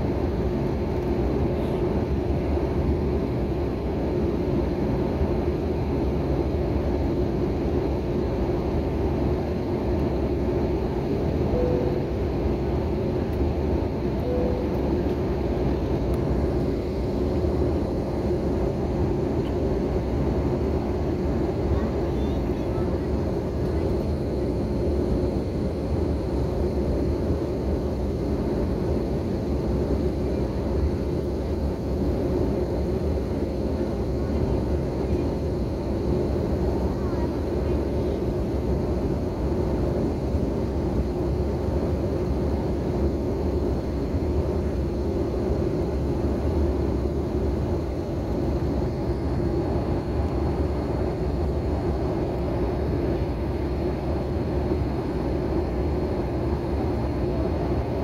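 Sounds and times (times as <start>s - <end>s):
airliner cabin engine drone: 0.0s - 58.0s
faint high whine: 7.2s - 58.0s.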